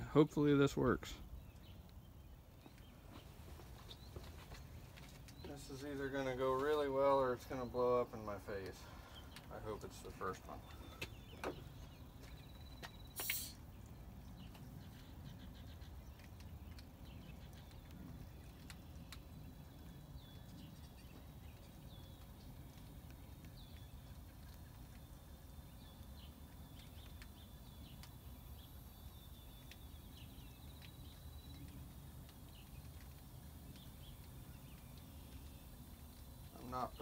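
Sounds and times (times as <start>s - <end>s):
soft high bird chirps: 0.7s - 37.0s.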